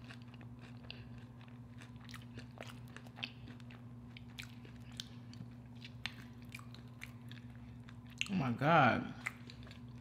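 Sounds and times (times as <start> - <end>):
person chewing with lips closed: 0.0 - 8.4, 9.1 - 10.0
steady low hum: 0.0 - 10.0.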